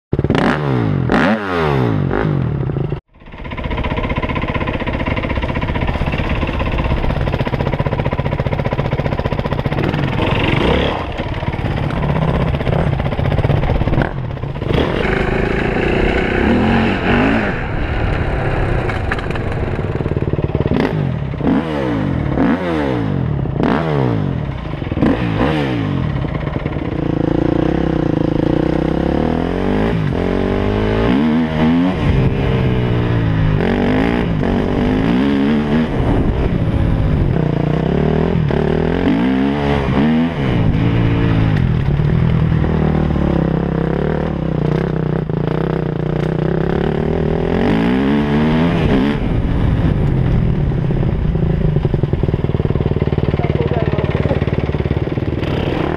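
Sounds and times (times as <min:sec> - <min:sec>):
dirt bike engines revving: 0:00.2 - 0:55.9.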